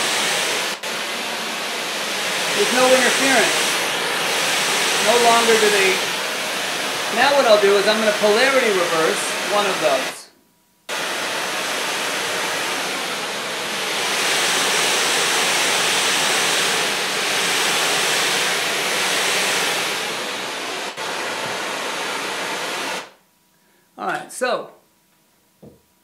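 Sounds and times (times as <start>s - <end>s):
pink noise hiss: 0.0s - 10.3s, 10.9s - 23.2s.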